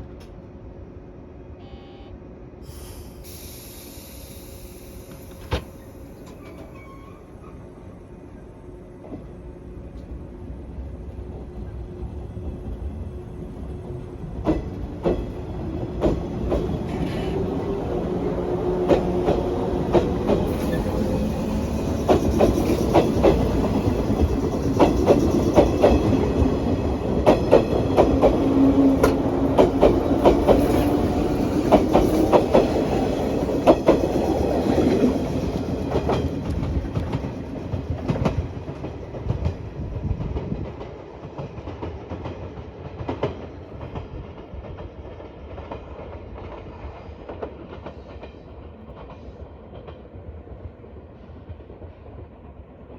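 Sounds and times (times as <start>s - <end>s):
electric train running past: 0.0s - 52.9s.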